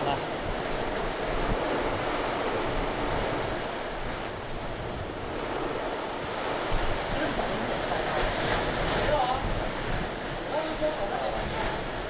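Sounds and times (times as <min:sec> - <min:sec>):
heavy rain: 0:00.0 - 0:12.0
storm wind gusting: 0:00.0 - 0:12.0.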